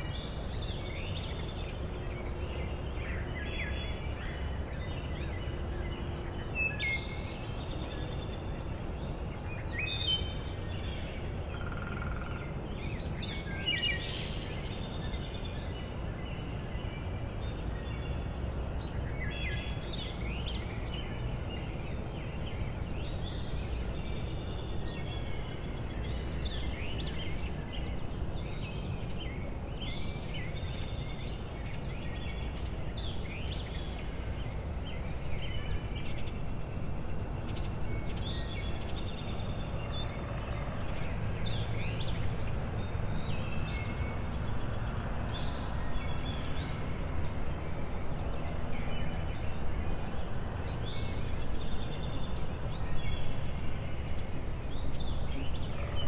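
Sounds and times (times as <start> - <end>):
songbird calls: 0.0 - 56.0.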